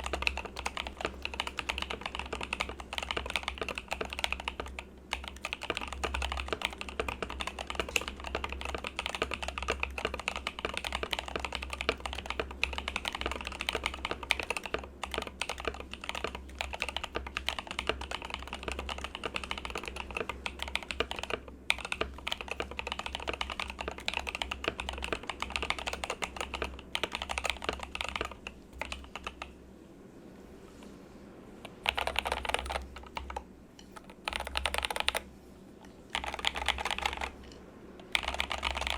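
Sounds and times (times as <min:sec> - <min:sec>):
mechanical keyboard typing: 0:00.0 - 0:29.6, 0:31.6 - 0:38.9.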